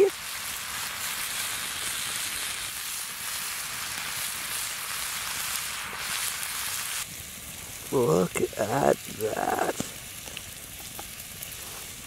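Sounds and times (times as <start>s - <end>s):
steak and onions sizzling: 0.0s - 12.0s.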